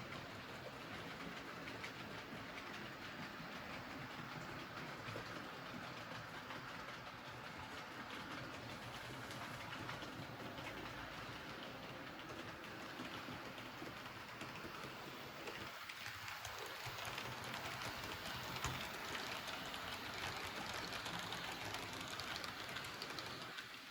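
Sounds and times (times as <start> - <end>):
model train rolling: 0.0 - 23.9
wheels clicking over rail joints: 0.0 - 23.9.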